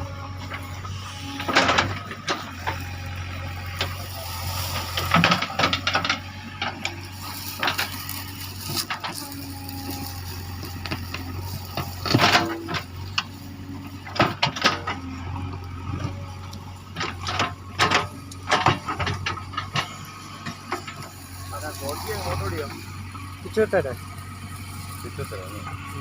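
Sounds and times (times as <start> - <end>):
diesel engine running: 0.0 - 26.0
trees and brush cracking: 0.0 - 26.0.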